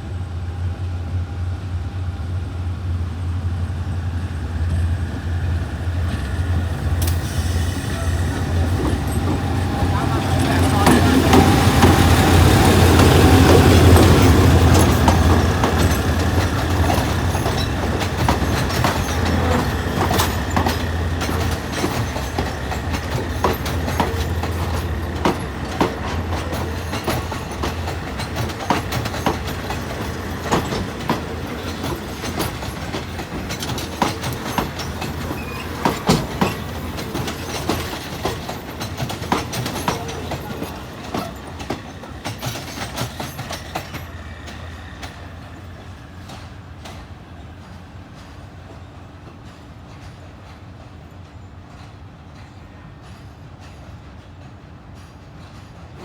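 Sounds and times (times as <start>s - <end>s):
train wheels clicking over rail joints: 3.9s - 56.0s.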